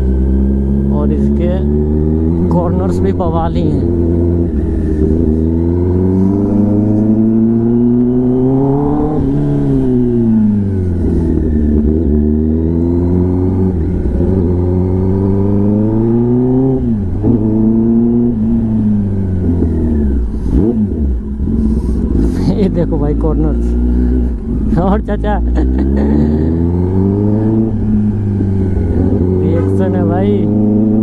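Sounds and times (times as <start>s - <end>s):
sport bike engine accelerating: 0.0s - 31.0s.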